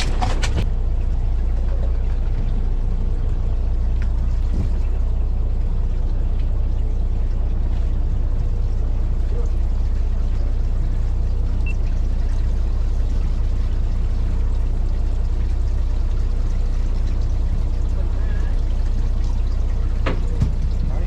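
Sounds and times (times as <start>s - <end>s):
boat engine drone: 0.0s - 21.0s
water washing: 0.0s - 21.0s.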